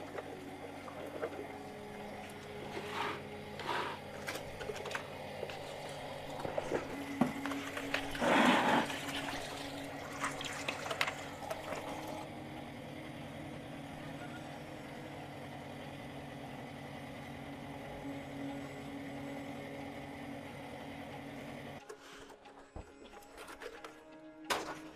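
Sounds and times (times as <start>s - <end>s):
low machine hum: 0.0s - 24.4s.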